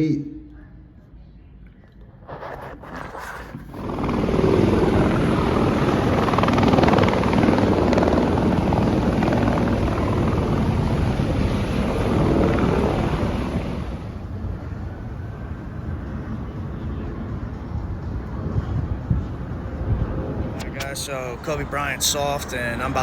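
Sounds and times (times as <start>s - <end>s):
helicopter rotor and engine: 3.5s - 23.0s.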